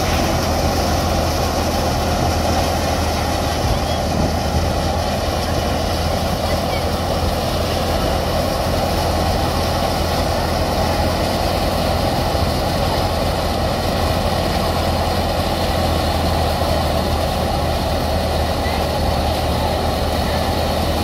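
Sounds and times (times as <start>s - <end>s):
diesel tractor engine under load: 0.0s - 21.0s
threshing drum mechanical drone: 0.0s - 21.0s.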